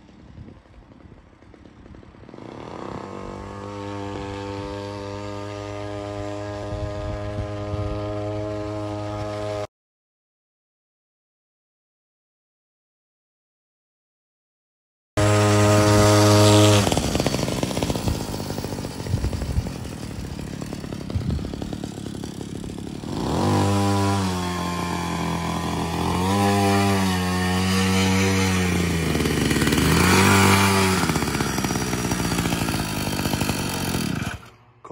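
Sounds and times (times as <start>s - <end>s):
small engine revving: 0.5s - 9.7s, 15.2s - 34.9s.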